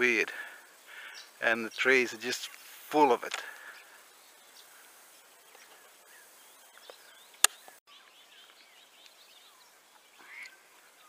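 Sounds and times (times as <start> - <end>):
insect calls: 0.0 - 11.0
faint bird chirps: 0.6 - 2.6, 3.6 - 11.0.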